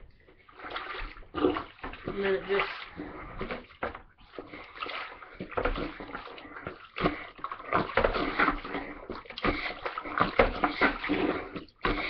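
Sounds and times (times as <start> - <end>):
water sloshing in bucket: 0.0 - 12.0.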